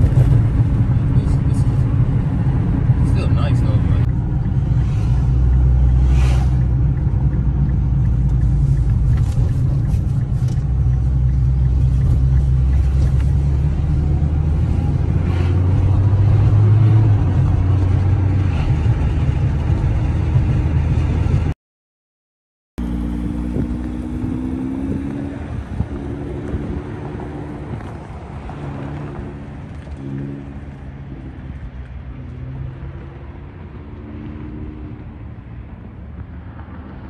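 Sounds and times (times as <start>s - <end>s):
car engine and road noise: 0.0s - 21.6s, 22.8s - 37.0s.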